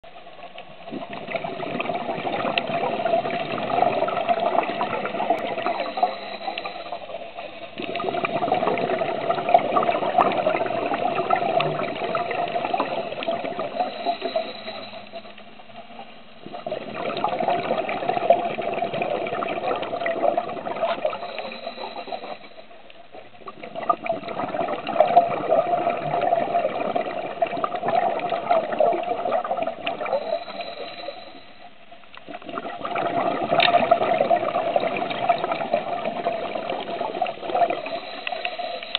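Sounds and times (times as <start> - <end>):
underwater crackling wash: 0.0 - 38.9.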